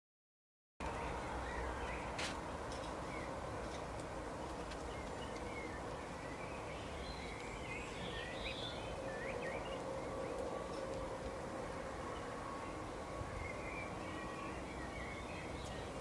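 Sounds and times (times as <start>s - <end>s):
small birds chirping: 0.8s - 10.9s, 12.0s - 16.0s
outdoor background hiss: 0.8s - 16.0s.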